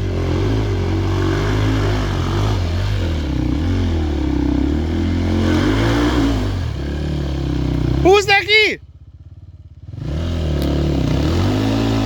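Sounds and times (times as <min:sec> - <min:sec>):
motorcycle engine revving: 0:00.0 - 0:08.2, 0:08.9 - 0:12.0.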